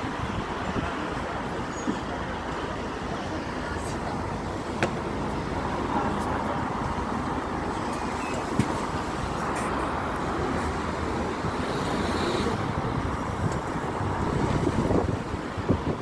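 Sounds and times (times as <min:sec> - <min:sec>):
bus engine rumbling: 0:00.0 - 0:16.0
traffic noise: 0:00.0 - 0:16.0.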